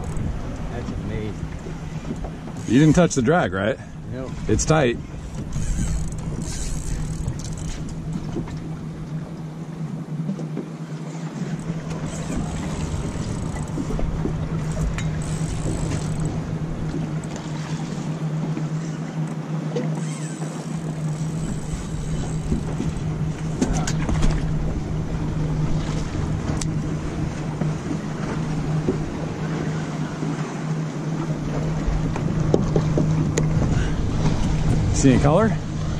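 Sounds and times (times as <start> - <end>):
boat motor idling: 0.0 - 35.9
water noise: 0.0 - 35.9
wind: 0.0 - 35.9.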